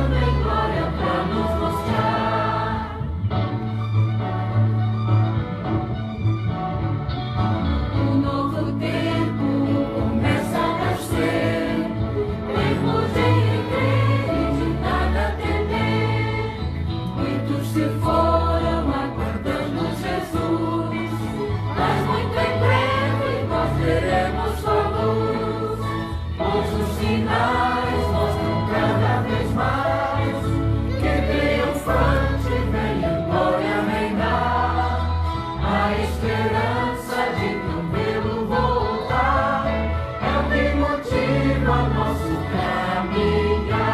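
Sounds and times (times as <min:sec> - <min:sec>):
choir singing gospel hymn: 0:00.0 - 0:03.4, 0:07.9 - 0:43.9
instrumental backing with bass: 0:00.0 - 0:43.9.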